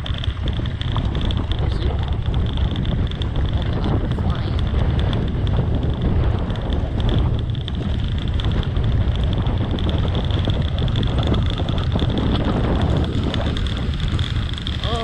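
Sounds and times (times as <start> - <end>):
dirt bike engine running: 0.0 - 15.0
wind buffeting microphone: 0.0 - 15.0.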